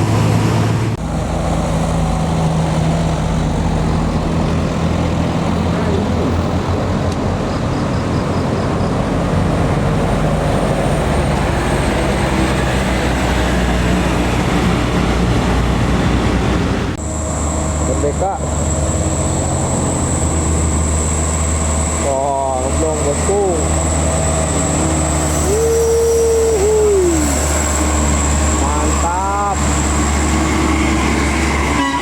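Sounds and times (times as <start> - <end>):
diesel engine low drone: 0.0 - 32.0.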